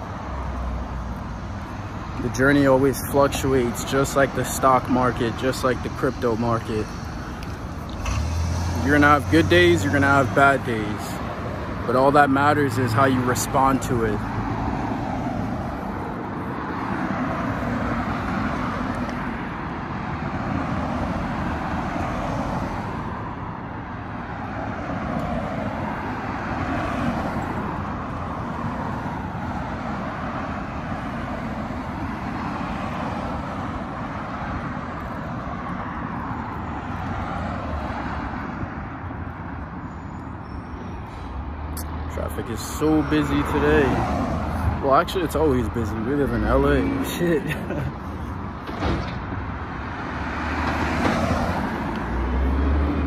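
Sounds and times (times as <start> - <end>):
passing cars and tyre noise: 0.0 - 53.0.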